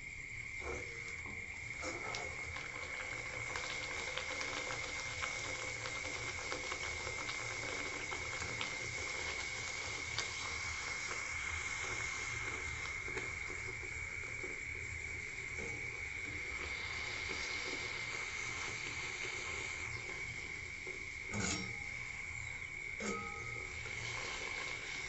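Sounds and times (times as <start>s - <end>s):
frying in hot oil: 0.0s - 25.0s.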